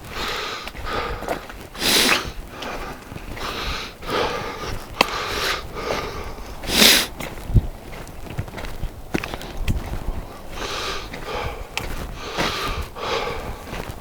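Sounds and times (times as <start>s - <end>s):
man breathing hard: 0.0s - 7.2s, 9.3s - 14.0s
light footstep clicks: 0.1s - 14.0s.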